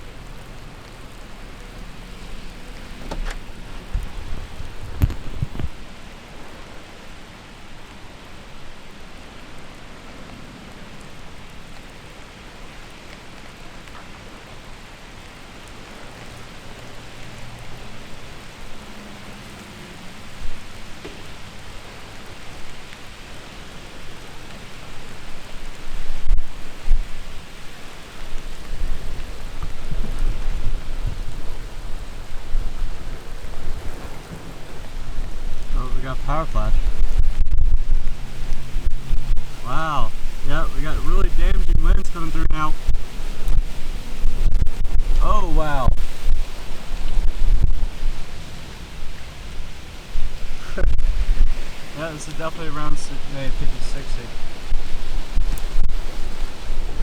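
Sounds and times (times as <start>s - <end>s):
heavy rain hissing: 0.0s - 57.0s
wind gusts rumbling: 0.0s - 57.0s.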